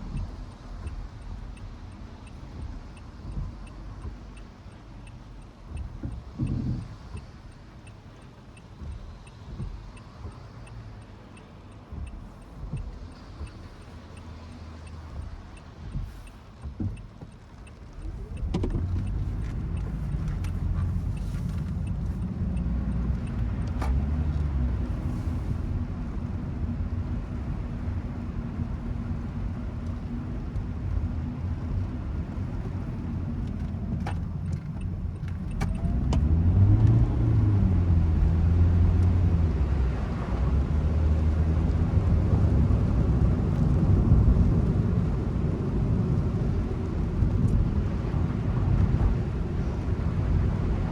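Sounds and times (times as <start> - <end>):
car engine and road rumble: 0.0 - 50.9.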